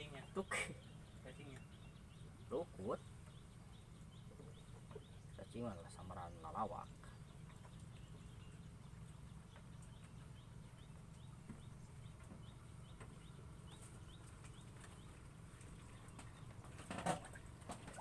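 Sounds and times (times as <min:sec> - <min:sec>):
bird chirping: 0:00.0 - 0:18.0
low steady rumble: 0:00.0 - 0:18.0.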